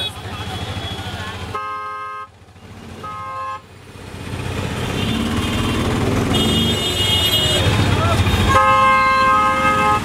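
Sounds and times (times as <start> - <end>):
vehicle horn honking: 0.0 - 2.4, 3.0 - 3.6, 4.9 - 10.0
motorbike and car engines: 0.0 - 10.0.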